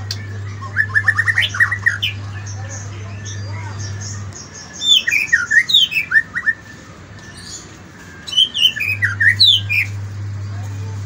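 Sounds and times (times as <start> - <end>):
bird singing whistled notes: 0.1 - 10.0.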